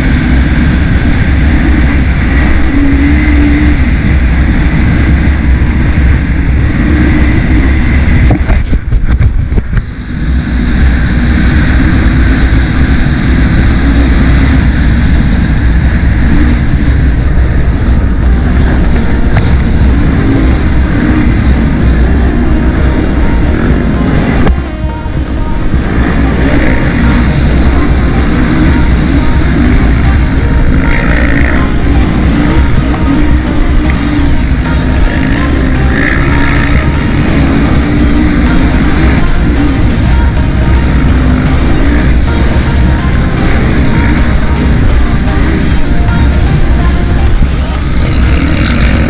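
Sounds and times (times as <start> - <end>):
quad engine running hard: 0.0 - 49.0.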